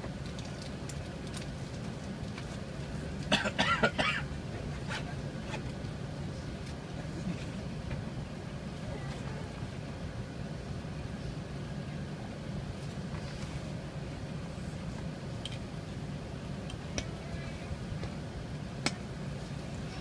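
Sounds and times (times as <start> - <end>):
aircraft cabin hum: 0.0 - 20.0.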